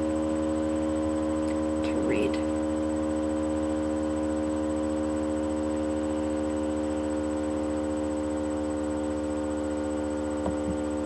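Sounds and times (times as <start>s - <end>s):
microphone electrical hum and buzz: 0.0s - 11.0s.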